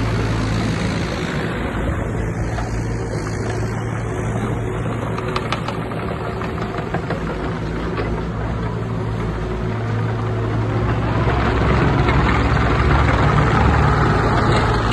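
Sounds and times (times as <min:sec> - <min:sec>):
mini excavator diesel engine: 0:00.0 - 0:14.9.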